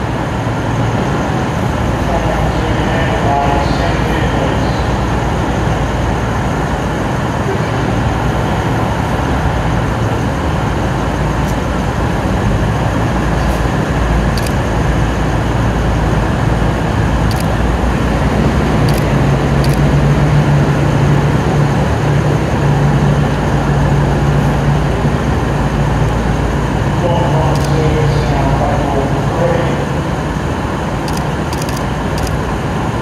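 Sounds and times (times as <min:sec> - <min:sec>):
diesel railcar engines droning: 0:00.0 - 0:33.0.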